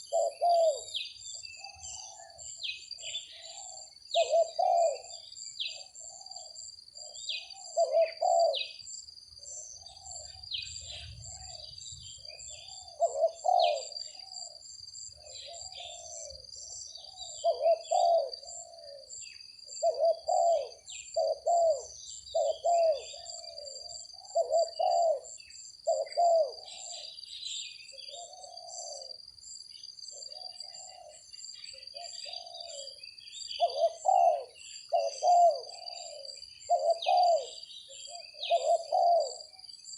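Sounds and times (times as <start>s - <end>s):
doves cooing: 0.0s - 27.2s, 27.9s - 29.2s, 30.1s - 39.7s.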